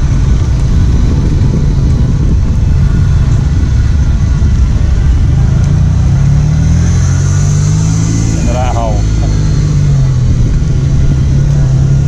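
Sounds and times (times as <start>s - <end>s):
vehicle engines running: 0.0s - 12.0s.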